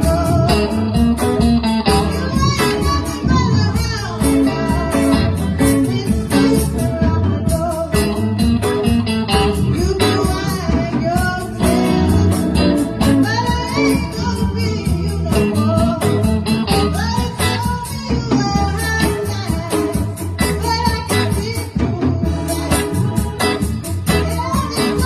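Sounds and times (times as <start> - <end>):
live blues band: 0.0 - 25.0
person singing: 0.0 - 25.0.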